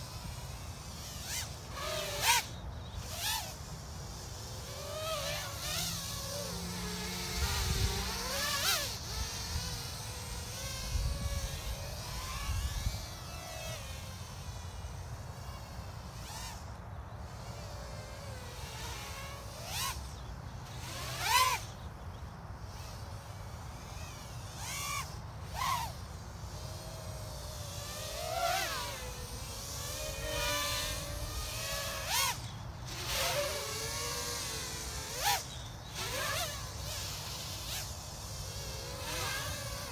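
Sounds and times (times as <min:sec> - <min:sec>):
quadcopter motors buzzing: 0:00.0 - 0:39.9.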